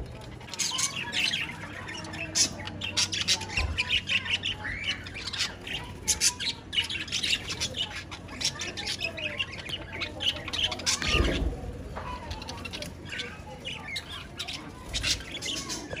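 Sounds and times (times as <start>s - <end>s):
budgerigars chattering: 0.0s - 16.0s.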